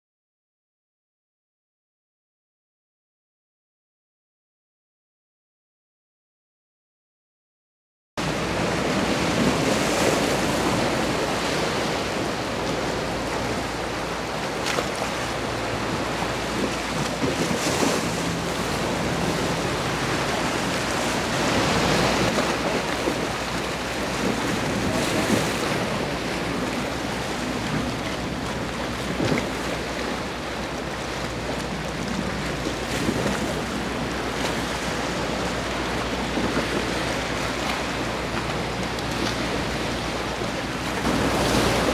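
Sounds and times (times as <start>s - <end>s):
small waves washing: 8.2s - 41.9s.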